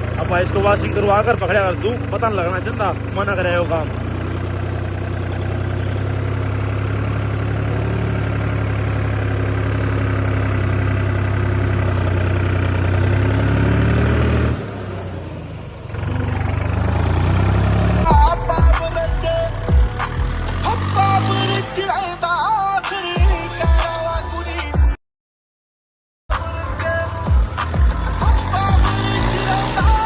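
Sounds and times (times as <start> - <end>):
tractor diesel engine running: 0.0 - 24.8, 26.3 - 30.0.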